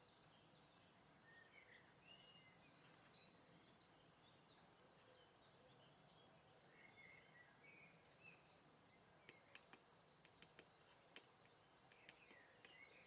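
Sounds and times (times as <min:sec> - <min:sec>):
outdoor background hiss: 0:00.0 - 0:13.0
small birds chirping: 0:00.0 - 0:13.0.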